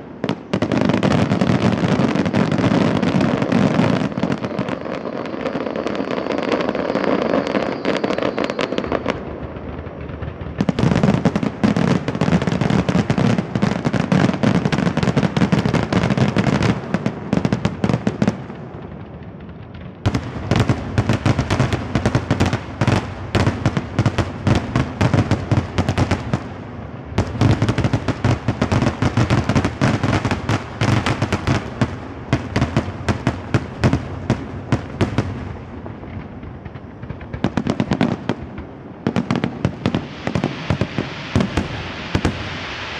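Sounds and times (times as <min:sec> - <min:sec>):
fireworks bangs and crackle: 0:00.0 - 0:42.9.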